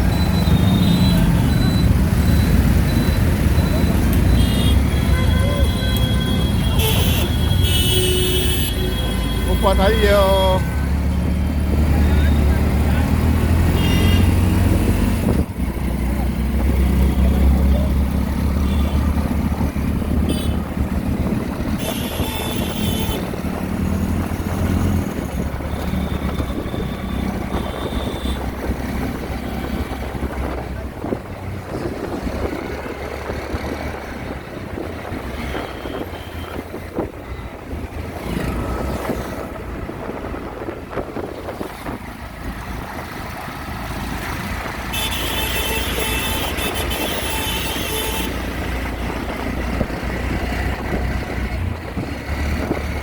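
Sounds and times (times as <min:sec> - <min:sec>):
auto-rickshaw engine running: 0:00.0 - 0:53.0
street traffic: 0:00.0 - 0:53.0.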